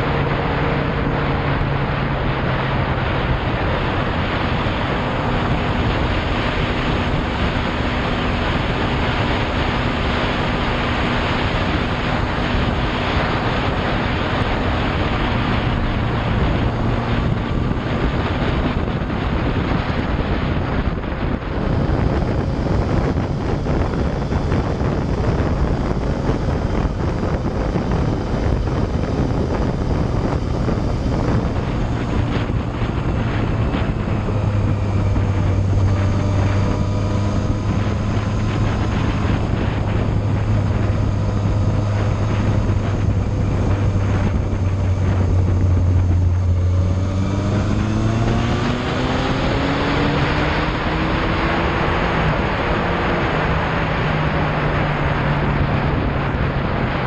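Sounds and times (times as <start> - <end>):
motorcycle engine running: 0.0 - 57.0
wind on microphone: 0.0 - 57.0.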